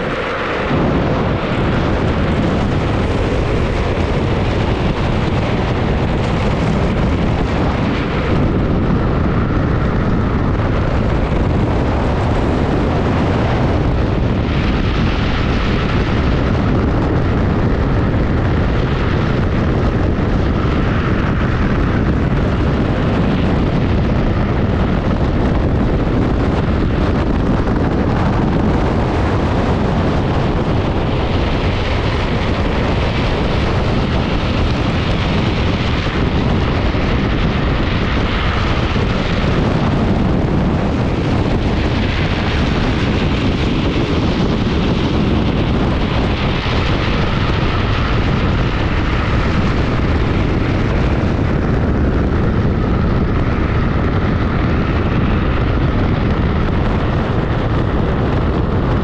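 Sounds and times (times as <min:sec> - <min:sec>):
wheels rumbling on asphalt: 0:00.0 - 0:59.0
wind buffeting microphone: 0:00.0 - 0:59.0.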